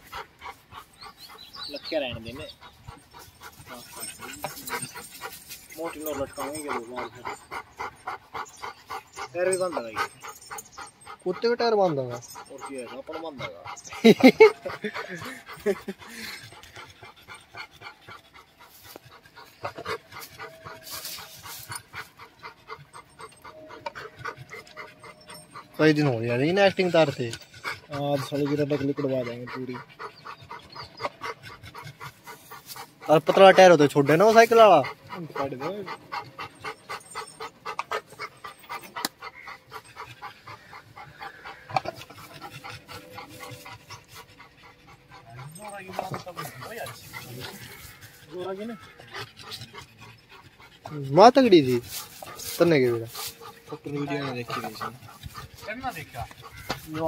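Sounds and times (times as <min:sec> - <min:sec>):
dog panting: 0:00.0 - 0:57.0.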